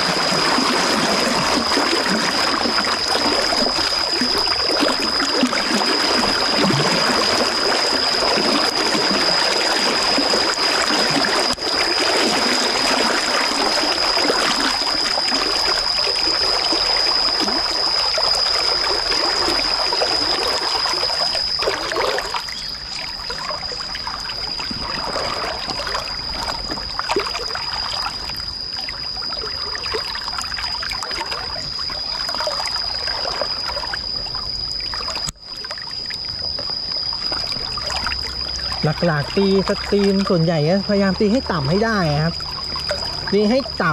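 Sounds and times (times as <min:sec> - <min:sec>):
high-pitched whine: 0:00.0 - 0:43.9
stream water over rocks: 0:00.0 - 0:43.9.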